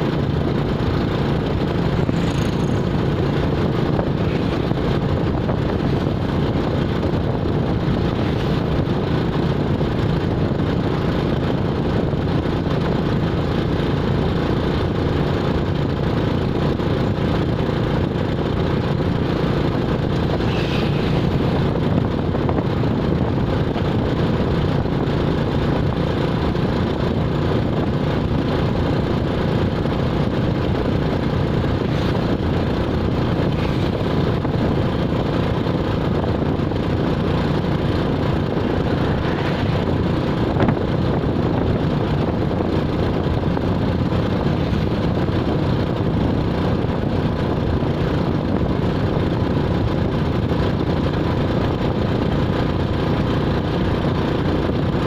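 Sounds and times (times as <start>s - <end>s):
low rumbling road noise: 0.0s - 55.0s
vehicle engine running: 0.0s - 55.0s.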